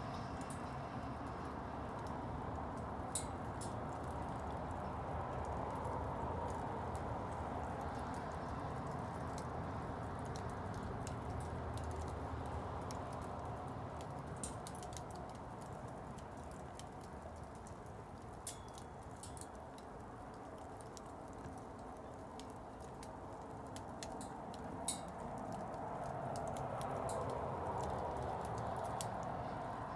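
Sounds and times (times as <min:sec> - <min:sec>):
burning wood crackling and popping: 0:00.0 - 0:29.9
low rush of flame: 0:00.0 - 0:29.9.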